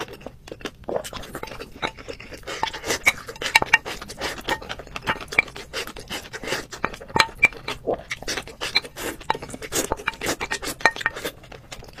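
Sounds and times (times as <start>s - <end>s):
wet mouth sounds eating: 0.0s - 12.0s
spoon scraping a bowl: 1.2s - 12.0s.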